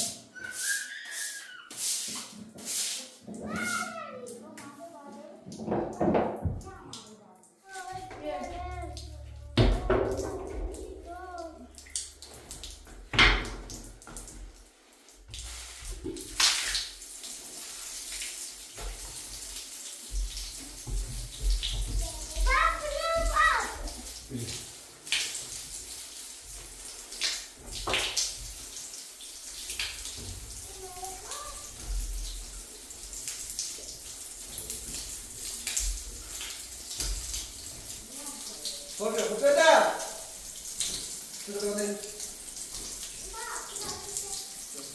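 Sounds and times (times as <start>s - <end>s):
water splashing: 0.0s - 4.8s, 5.4s - 44.9s.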